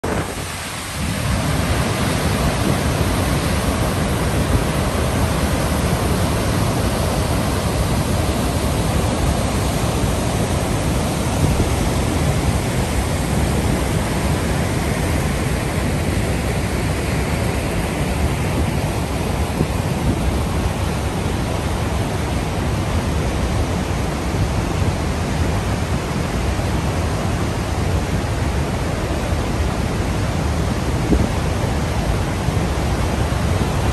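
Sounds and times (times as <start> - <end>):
water rushing over rapids: 0.0 - 33.9.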